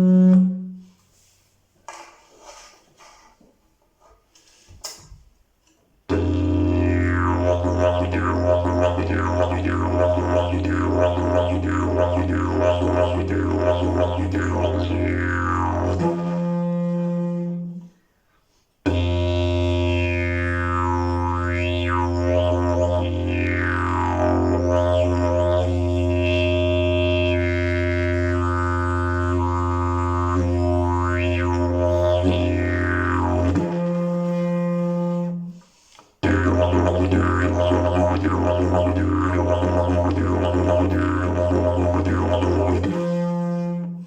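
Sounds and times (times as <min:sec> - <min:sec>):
didgeridoo drone: 0:06.1 - 0:17.6, 0:18.9 - 0:35.5, 0:36.2 - 0:44.0.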